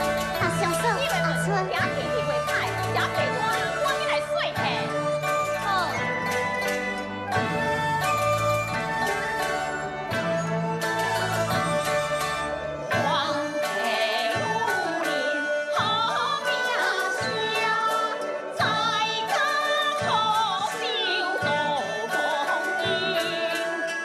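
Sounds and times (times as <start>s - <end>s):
traditional melodic instruments: 0.0s - 24.0s.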